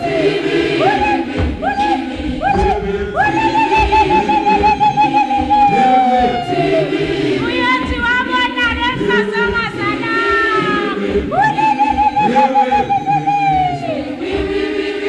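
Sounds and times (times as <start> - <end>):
high voice singing: 0.0 - 14.9
lower voices singing: 0.0 - 15.0.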